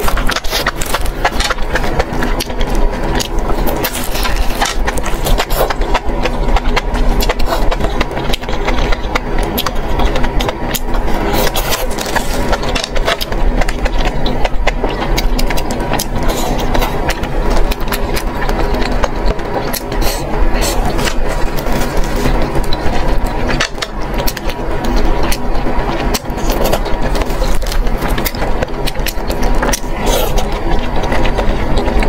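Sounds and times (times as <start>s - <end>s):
low mechanical hum: 0.0s - 32.0s
person chewing and biting: 0.0s - 32.0s.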